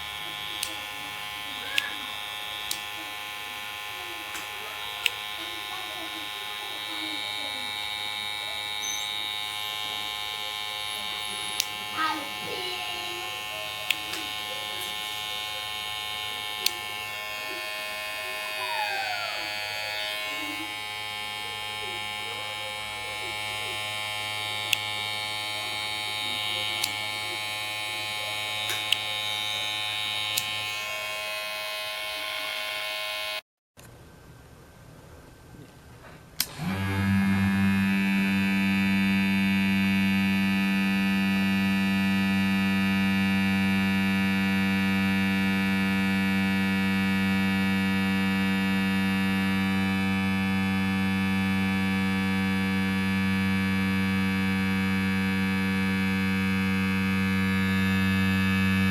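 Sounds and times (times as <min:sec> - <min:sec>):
electric hair clipper buzzing: 0:00.0 - 0:33.4, 0:36.4 - 0:58.9.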